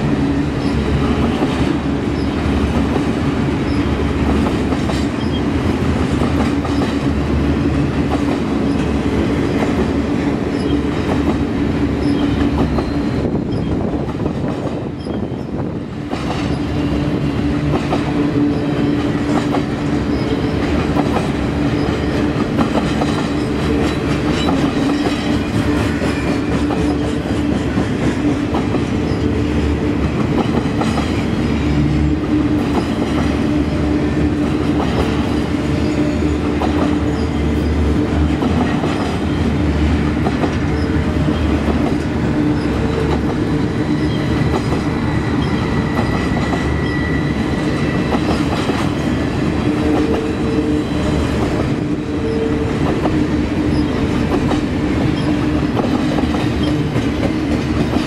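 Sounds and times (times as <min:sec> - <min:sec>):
clickety-clack over rail joints: 0:00.0 - 0:58.0
freight train wheels rumbling: 0:00.0 - 0:58.0.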